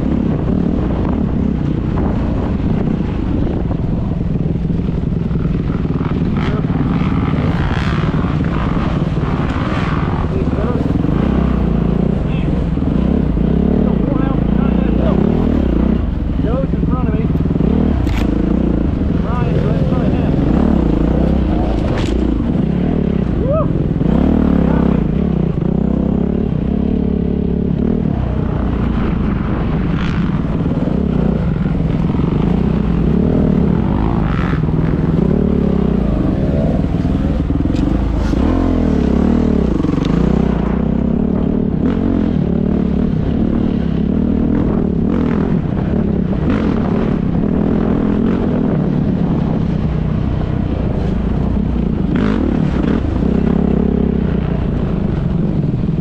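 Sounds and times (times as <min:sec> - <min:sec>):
knocks and rattles from bike: 0:00.0 - 0:22.9, 0:23.9 - 0:56.0
dirt bike engine running: 0:00.0 - 0:56.0.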